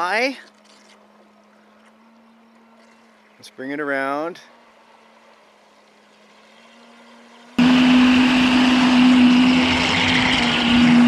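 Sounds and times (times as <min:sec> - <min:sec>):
boat motor whining: 0:00.0 - 0:11.0.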